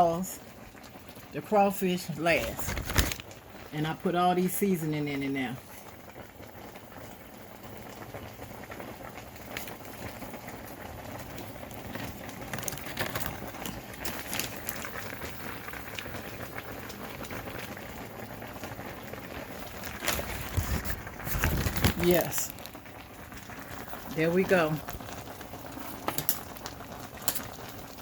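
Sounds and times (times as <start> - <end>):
pot bubbling at the boil: 0.0 - 28.0.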